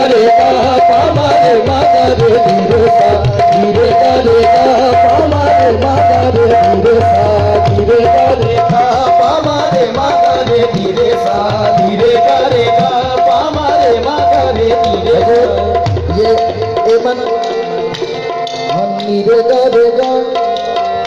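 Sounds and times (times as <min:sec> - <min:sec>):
harmonium melody: 0:00.0 - 0:21.0
tabla drumming: 0:00.0 - 0:21.0.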